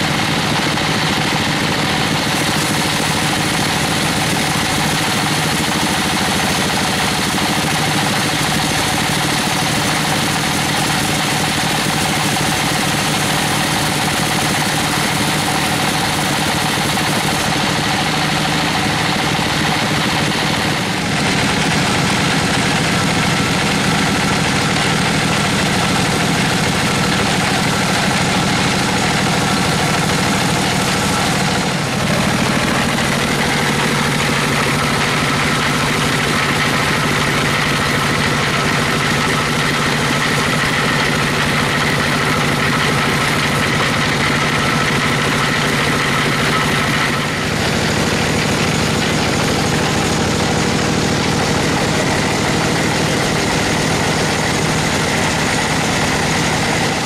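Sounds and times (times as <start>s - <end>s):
bandsaw machinery whine: 0.0s - 57.0s
diesel engine running: 0.0s - 57.0s.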